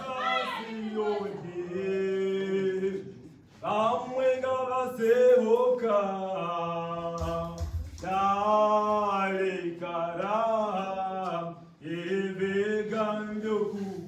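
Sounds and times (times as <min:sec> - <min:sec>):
choir singing a cappella: 0:00.0 - 0:14.0.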